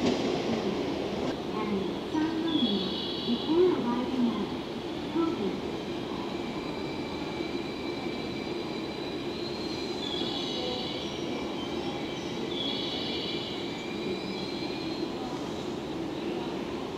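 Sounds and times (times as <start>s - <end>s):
electric train rumbling: 0.0s - 16.9s.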